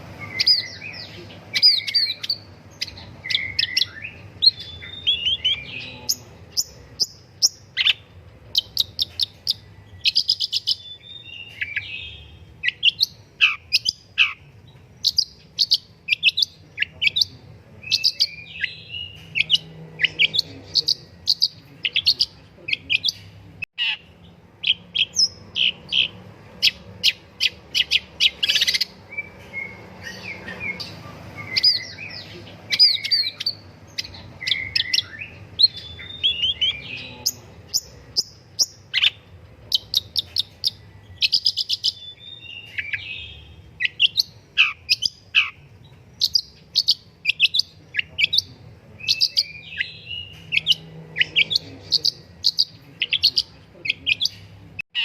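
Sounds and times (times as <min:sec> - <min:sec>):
shrike singing: 0:00.0 - 0:55.0.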